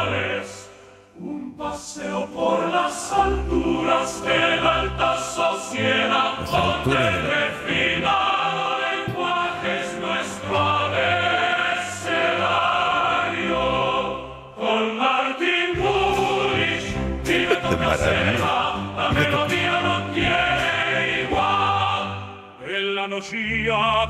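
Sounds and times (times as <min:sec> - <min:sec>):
choir singing over music: 0:00.0 - 0:22.7.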